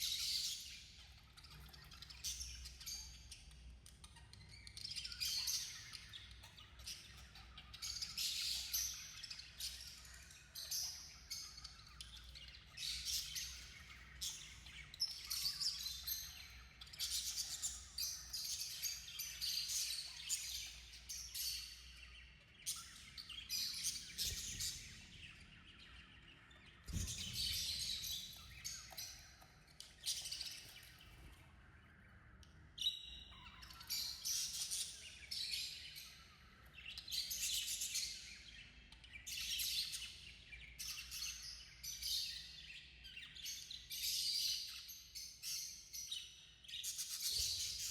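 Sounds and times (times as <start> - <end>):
budgerigars chirping and warbling: 0.0 - 47.9.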